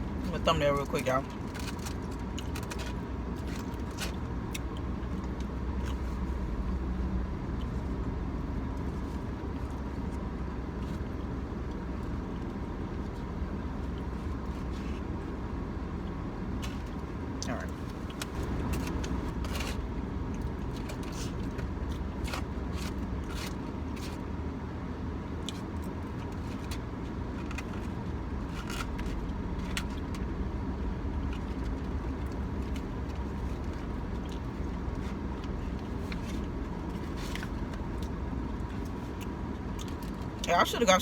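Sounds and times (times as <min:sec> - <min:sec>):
car interior hum: 0:00.0 - 0:41.0.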